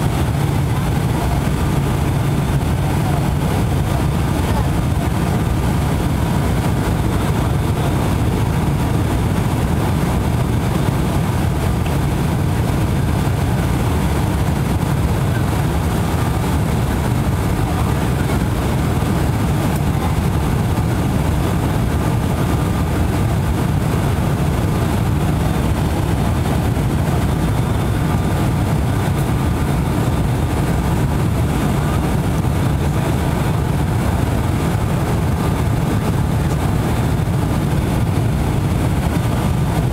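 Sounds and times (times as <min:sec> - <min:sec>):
faint steady whine: 0:00.0 - 0:39.9
turboprop cabin drone: 0:00.0 - 0:39.9.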